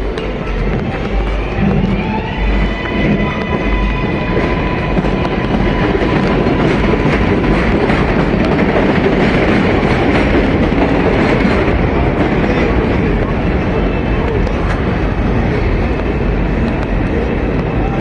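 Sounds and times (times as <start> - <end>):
subway train rumbling on tracks: 0.0 - 18.0.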